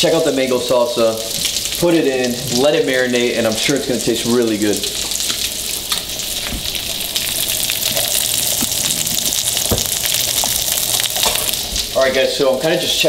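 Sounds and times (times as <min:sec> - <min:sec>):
fish sizzling in a frying pan: 0:00.0 - 0:12.3.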